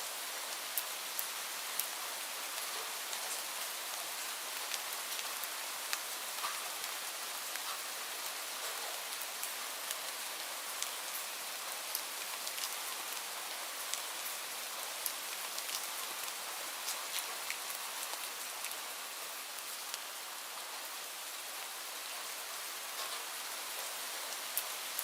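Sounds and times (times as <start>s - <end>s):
light rain hissing: 0.0s - 25.0s
raindrops ticking on a surface: 0.1s - 20.8s, 22.8s - 25.0s.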